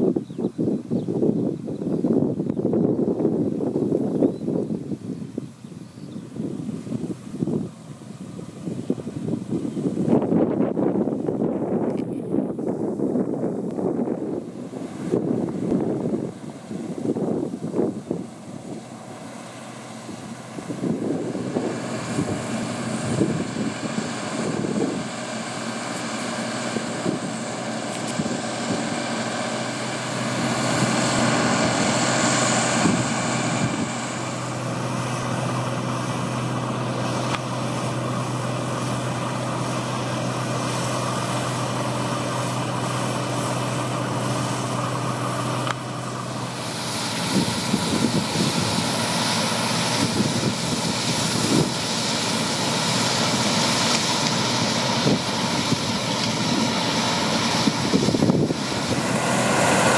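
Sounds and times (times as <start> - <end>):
combine harvester engine droning: 0.0 - 59.9.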